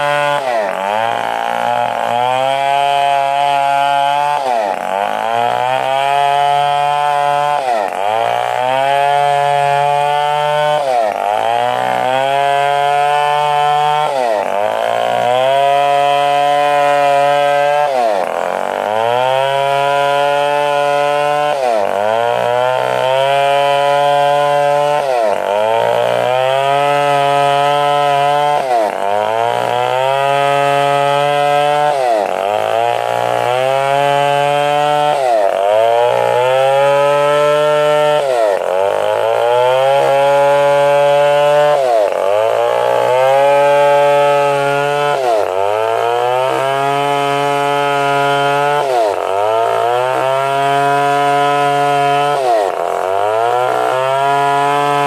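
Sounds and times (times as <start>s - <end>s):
chainsaw running under load: 0.0s - 55.0s.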